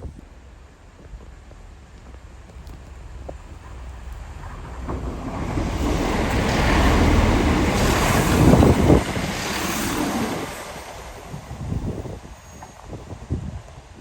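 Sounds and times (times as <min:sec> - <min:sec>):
passenger train passing: 0:00.3 - 0:14.0
wind buffeting microphone: 0:01.0 - 0:14.0.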